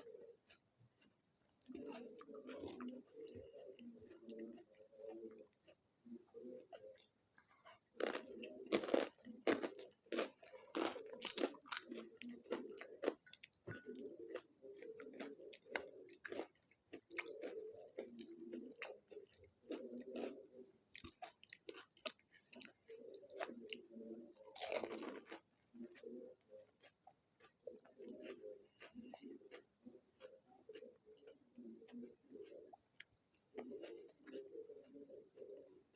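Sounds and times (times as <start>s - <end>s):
chewing and crunching: 0.0s - 35.9s.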